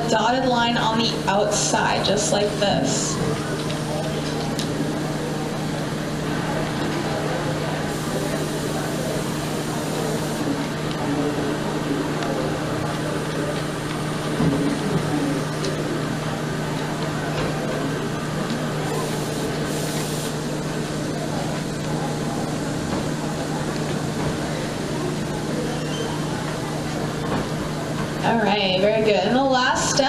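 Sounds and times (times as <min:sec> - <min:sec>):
murmur of voices: 0:00.0 - 0:30.0
ventilation hum: 0:00.0 - 0:30.0.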